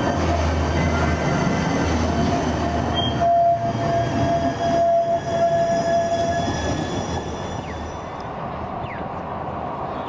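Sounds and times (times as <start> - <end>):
streetcar rolling on rails: 0.0 - 10.0.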